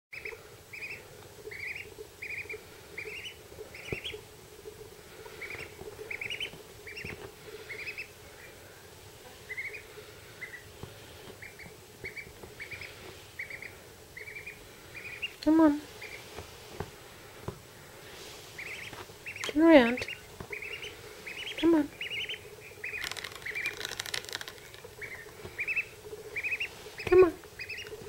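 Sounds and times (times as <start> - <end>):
duckling peeping: 0.1 - 4.3, 5.2 - 8.7, 9.4 - 16.6, 18.4 - 28.0.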